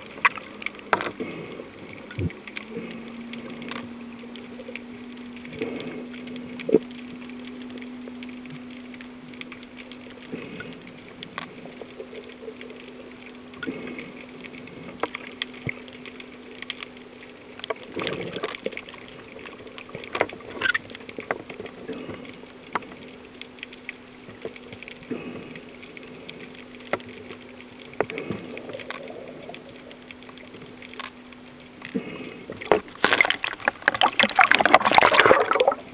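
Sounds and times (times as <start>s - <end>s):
sharp clicks and pops: 0.0s - 35.9s
water gurgling and sloshing: 0.0s - 35.9s.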